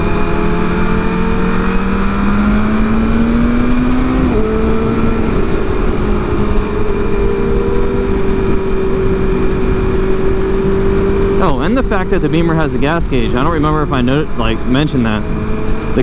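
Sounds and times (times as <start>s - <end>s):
sport bike engine revving: 0.0s - 16.0s.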